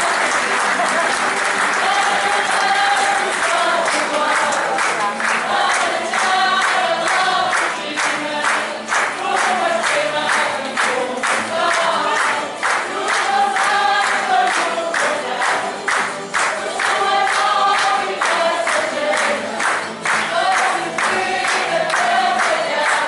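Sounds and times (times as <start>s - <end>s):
group of voices singing: 0.0s - 23.0s
steady rhythmic accompaniment: 0.0s - 23.0s.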